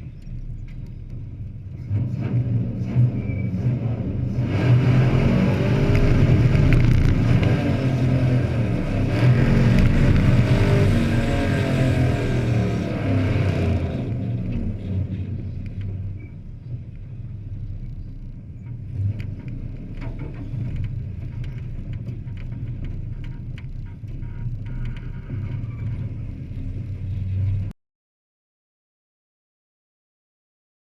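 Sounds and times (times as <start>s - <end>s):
truck engines rumbling: 0.0s - 27.7s.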